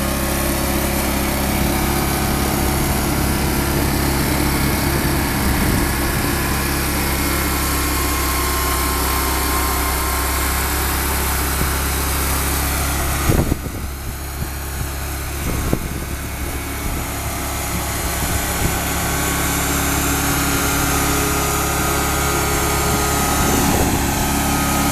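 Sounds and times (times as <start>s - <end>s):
petrol engine running: 0.0s - 24.9s.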